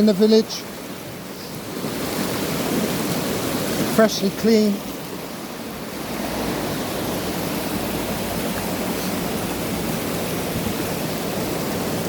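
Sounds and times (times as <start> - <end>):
river water over rocks: 0.0 - 12.0
waterfall rushing: 0.0 - 12.0.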